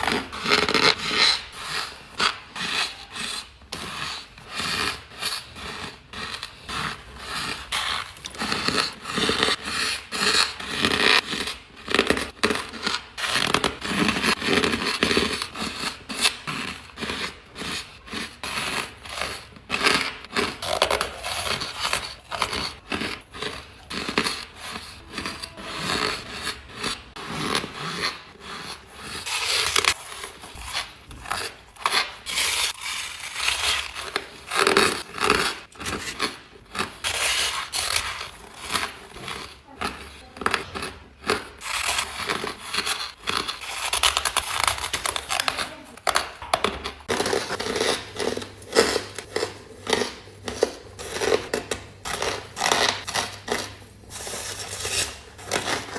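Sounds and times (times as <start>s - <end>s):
ice being chewed: 4.2s - 13.2s, 13.9s - 55.9s.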